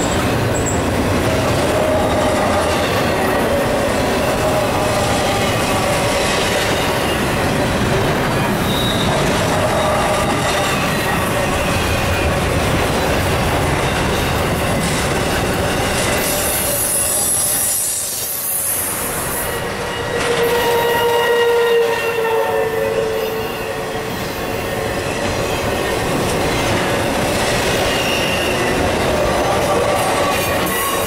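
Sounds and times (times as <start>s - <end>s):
freight train wheels on rails: 0.0s - 31.0s.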